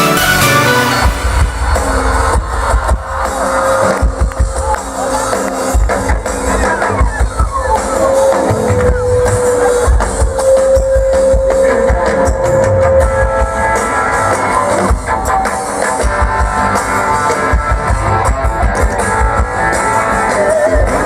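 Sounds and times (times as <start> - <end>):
rock instrumental music: 0.0 - 21.0.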